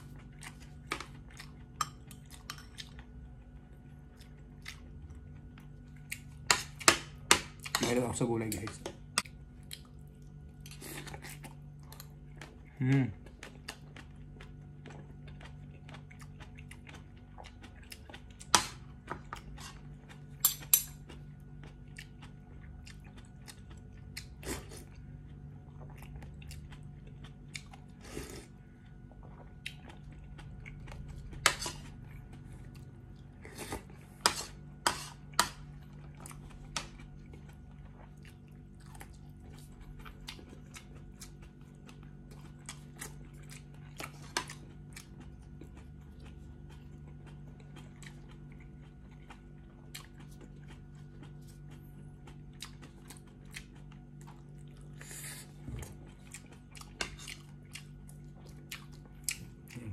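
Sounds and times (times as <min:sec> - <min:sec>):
chewing and crunchy bites: 0:00.0 - 0:08.0, 0:08.8 - 0:59.9.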